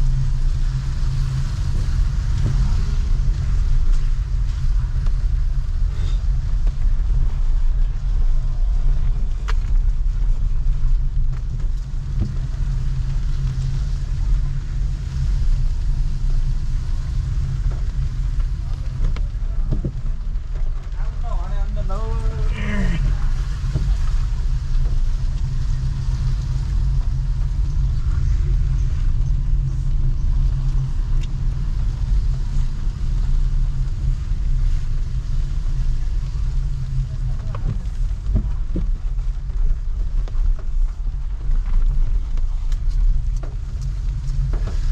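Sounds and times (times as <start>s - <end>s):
rain hiss: 0.0s - 44.9s
traffic rumble: 0.0s - 44.9s.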